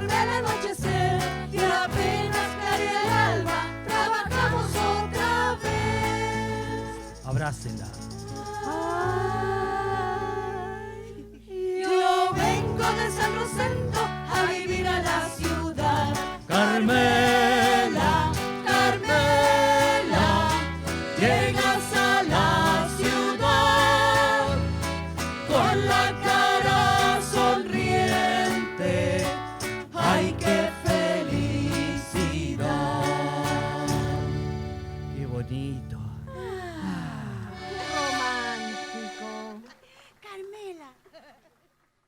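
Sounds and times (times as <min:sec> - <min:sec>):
voices singing together: 0:00.0 - 0:07.3, 0:08.2 - 0:35.0, 0:36.8 - 0:39.5
strummed accompaniment: 0:00.0 - 0:09.5, 0:12.2 - 0:36.0, 0:37.5 - 0:39.6.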